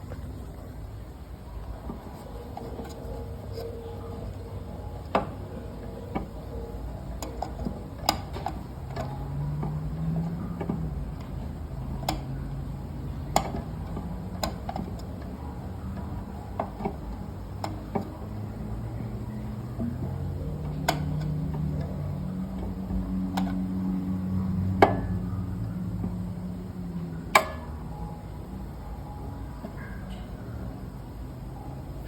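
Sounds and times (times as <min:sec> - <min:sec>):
boiler humming: 0:00.0 - 0:32.0.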